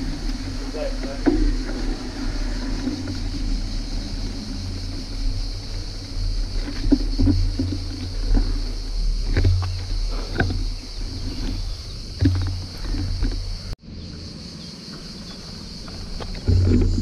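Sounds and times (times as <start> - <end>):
tyre noise on asphalt: 0.0 - 17.0
wind rumbling on microphone: 0.0 - 17.0.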